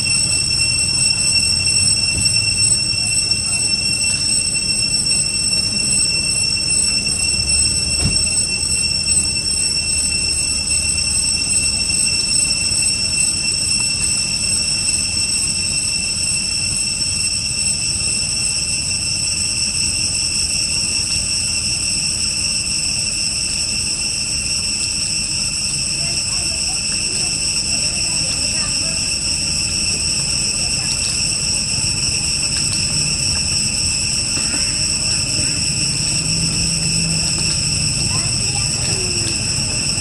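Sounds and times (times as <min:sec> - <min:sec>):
high-pitched insect drone: 0:00.0 - 0:40.0.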